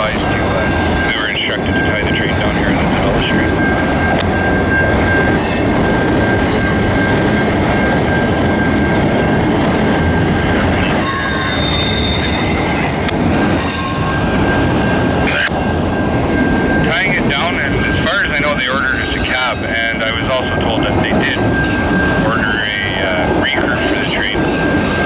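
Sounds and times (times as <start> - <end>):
shrill wheel squeal: 0.0 - 25.0
train wheels rumbling on rail: 0.0 - 25.0.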